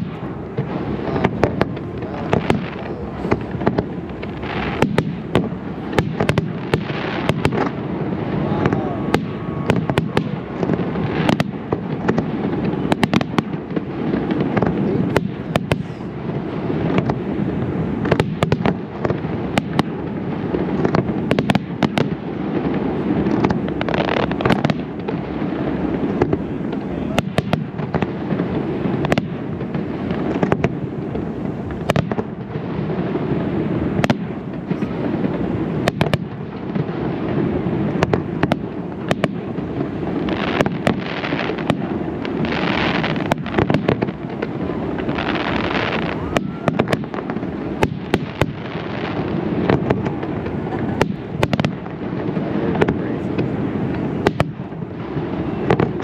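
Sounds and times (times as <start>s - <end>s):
fizzing crackle of fireworks: 0.0s - 56.0s.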